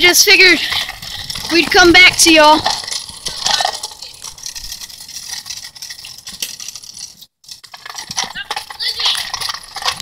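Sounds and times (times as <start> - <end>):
wheels clicking and rattling on concrete: 0.0 - 10.0.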